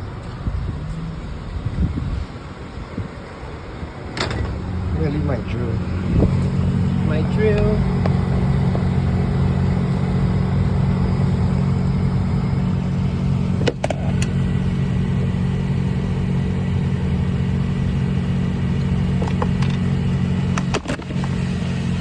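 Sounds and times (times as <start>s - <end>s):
cabin blower fan: 0.0s - 22.0s
car engine humming: 0.0s - 22.0s.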